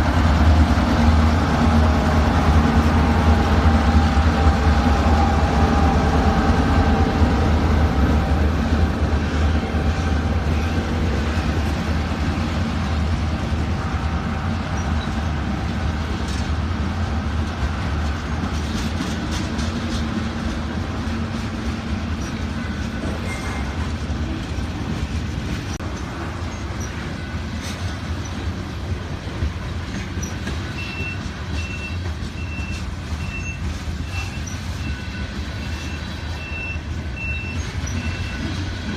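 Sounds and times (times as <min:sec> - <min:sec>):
freight train rumble: 0:00.0 - 0:38.9.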